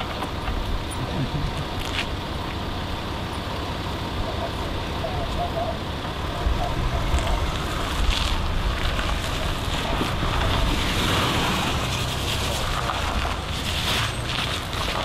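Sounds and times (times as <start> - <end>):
vehicle engine running slowly: 0.0 - 15.0.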